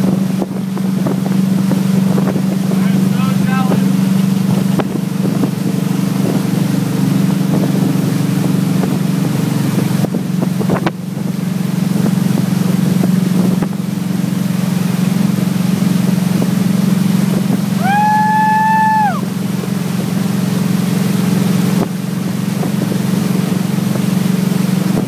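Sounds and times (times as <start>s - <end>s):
boat engine running: 0.0s - 25.0s
wake rushing: 0.0s - 25.0s
wind buffeting microphone: 0.0s - 25.0s.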